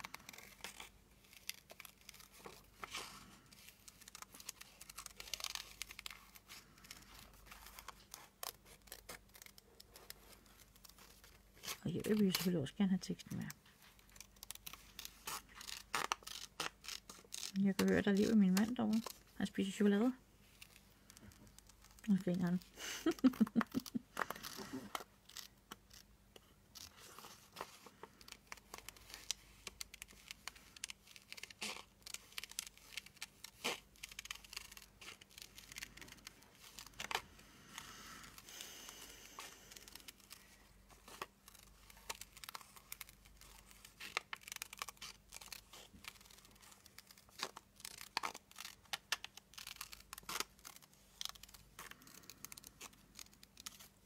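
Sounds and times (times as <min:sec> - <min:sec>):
paper clicks and snips: 0:00.0 - 0:12.5, 0:23.1 - 0:54.0
paper tearing: 0:00.0 - 0:19.3, 0:20.4 - 0:26.1, 0:26.7 - 0:54.0.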